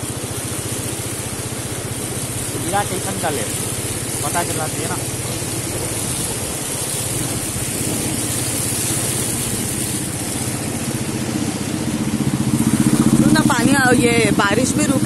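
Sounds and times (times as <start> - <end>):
water spray hissing: 0.0 - 14.8
motorcycle engine running: 0.0 - 15.0.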